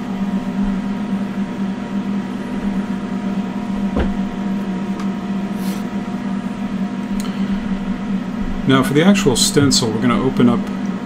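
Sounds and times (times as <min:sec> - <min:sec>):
fans and pumps humming: 0:00.0 - 0:11.0.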